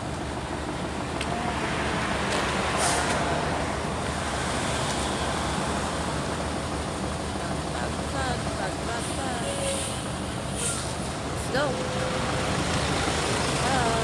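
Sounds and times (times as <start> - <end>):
highway traffic passing: 0.0 - 14.0.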